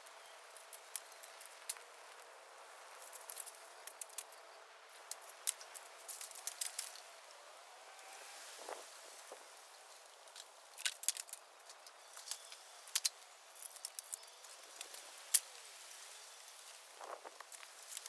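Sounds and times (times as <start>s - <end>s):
dry bamboo crackling and snapping: 0.0s - 18.0s
faint steady hiss: 0.0s - 18.0s.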